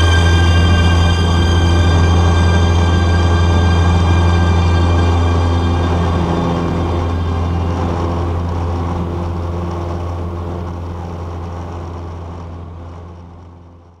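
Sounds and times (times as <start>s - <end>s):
plane engine and propeller droning: 0.0s - 14.0s.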